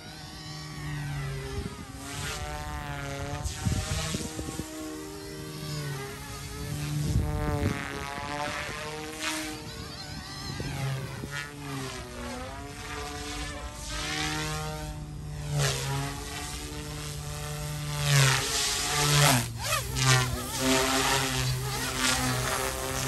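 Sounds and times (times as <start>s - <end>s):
rc helicopter motor whine: 0.0s - 23.0s.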